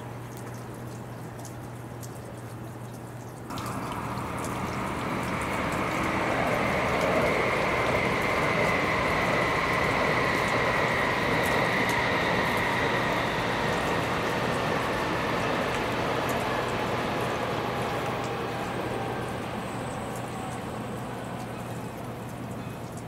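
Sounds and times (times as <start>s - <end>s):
high train whine: 3.5s - 23.0s
train wheels rumbling on rails: 3.5s - 23.0s.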